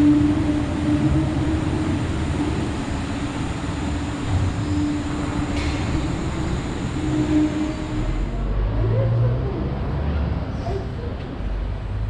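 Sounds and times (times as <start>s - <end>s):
suspended train rumbling: 0.0s - 12.0s.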